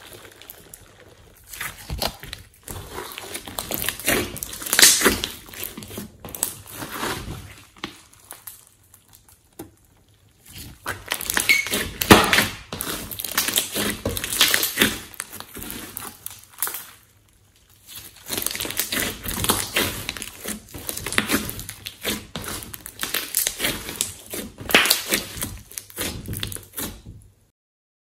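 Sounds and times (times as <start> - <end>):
slime squelching and crackling: 0.0 - 27.5.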